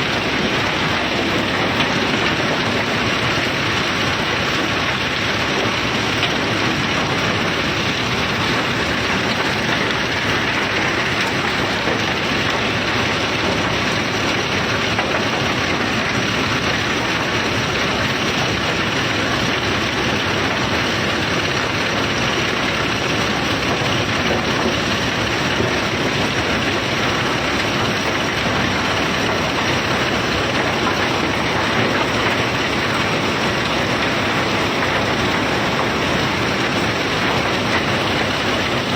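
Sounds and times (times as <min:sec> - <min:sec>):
machinery rattle and hum: 0:00.0 - 0:38.9.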